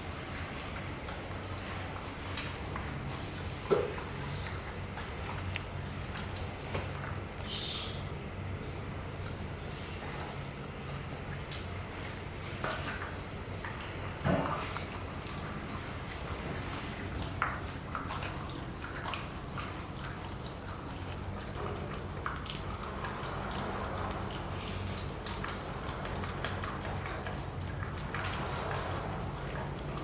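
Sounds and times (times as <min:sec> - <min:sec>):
puppy licking and chewing toy: 0:00.0 - 0:08.2, 0:09.0 - 0:30.0.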